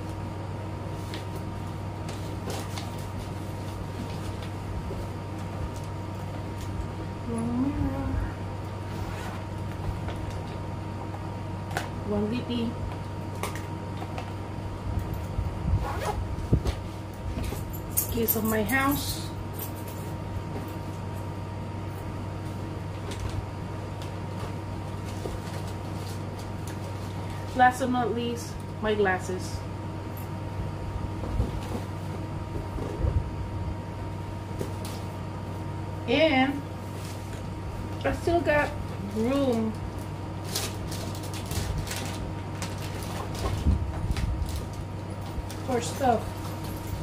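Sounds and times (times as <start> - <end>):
air conditioner humming: 0.0 - 47.0.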